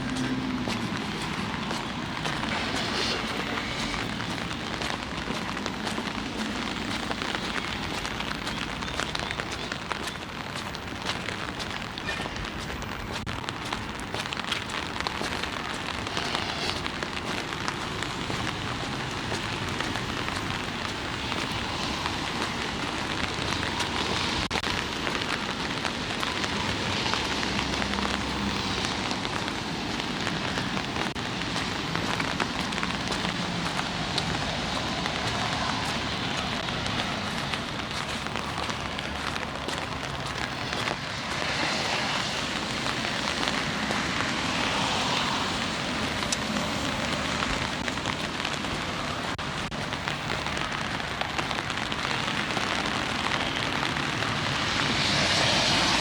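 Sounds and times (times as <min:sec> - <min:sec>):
rain drumming on umbrella: 0:00.0 - 0:56.0.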